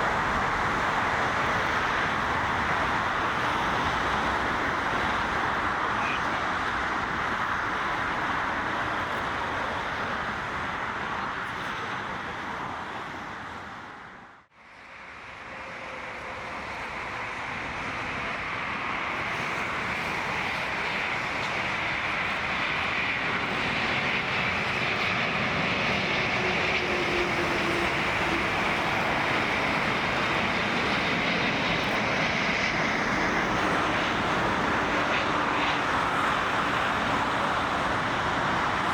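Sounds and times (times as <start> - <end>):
jet engine noise: 0.0 - 38.9.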